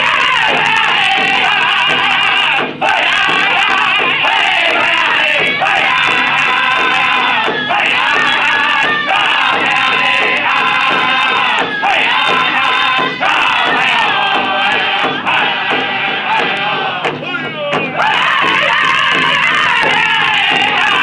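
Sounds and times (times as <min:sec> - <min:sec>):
large drum beat: 0:00.0 - 0:21.0
men singing together: 0:00.0 - 0:21.0.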